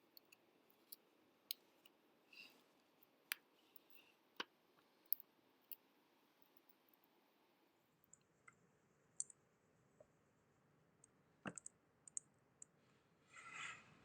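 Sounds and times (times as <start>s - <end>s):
faint sharp clicks and ticks: 0.0s - 10.2s, 10.9s - 12.8s.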